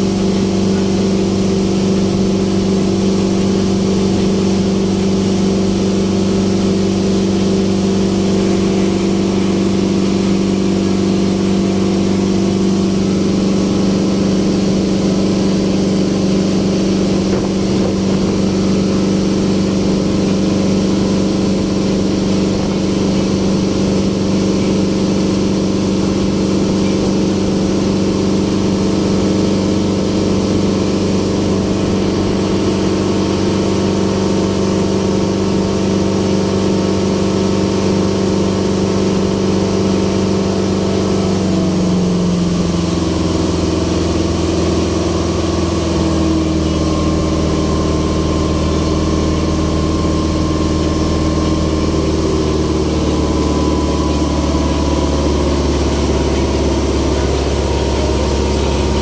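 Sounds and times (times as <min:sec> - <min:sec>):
ferry engine drone: 0:00.0 - 0:59.0.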